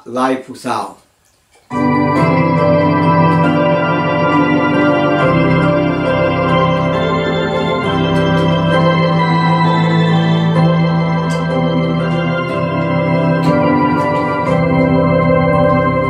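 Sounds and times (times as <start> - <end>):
organ playing hymn chords: 1.7 - 16.0.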